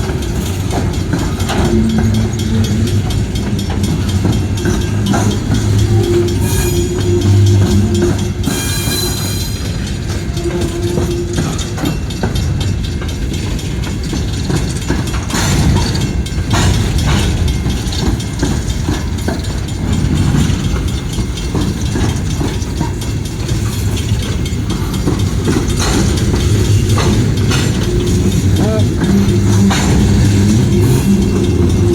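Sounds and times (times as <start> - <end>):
train cars rumbling: 0.0 - 31.9
wheels clacking over rail joints: 0.0 - 31.9.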